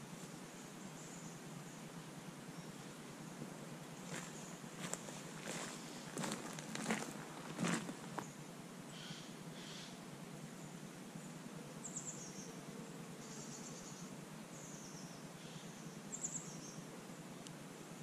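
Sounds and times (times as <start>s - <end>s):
small birds singing: 0.0s - 17.6s
low outdoor background hum: 0.0s - 18.0s.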